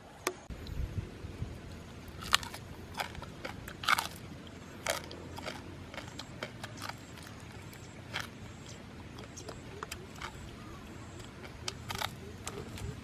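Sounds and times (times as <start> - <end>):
crisp skin and bones crunching: 2.1 - 13.0.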